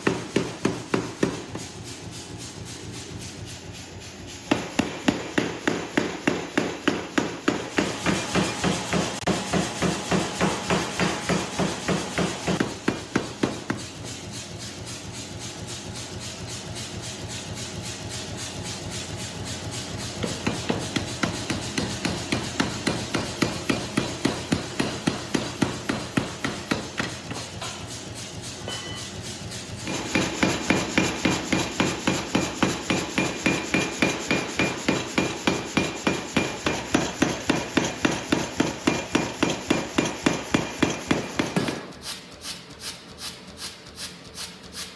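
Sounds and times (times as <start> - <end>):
hammer forging steel: 0.0 - 14.4, 19.9 - 42.0.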